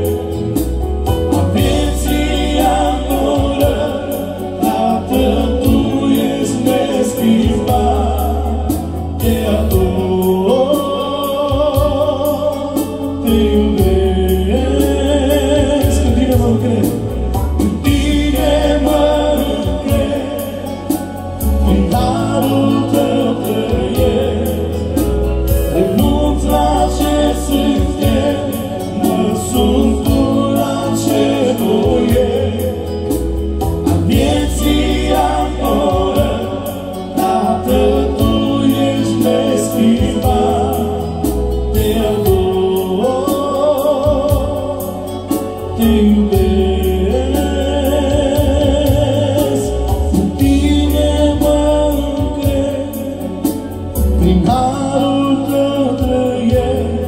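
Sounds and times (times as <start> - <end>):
band with bass and beat: 0.0 - 57.0
gospel singing voices: 0.0 - 57.0.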